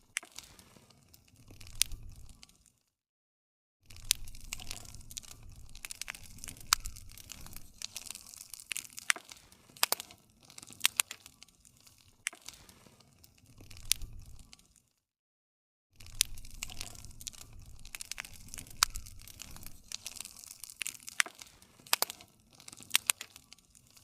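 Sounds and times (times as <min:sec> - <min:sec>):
low rumble of burning: 0:00.0 - 0:02.8, 0:03.9 - 0:14.8, 0:16.0 - 0:24.0
wood campfire crackling: 0:00.0 - 0:02.8, 0:03.9 - 0:15.0, 0:16.0 - 0:24.0.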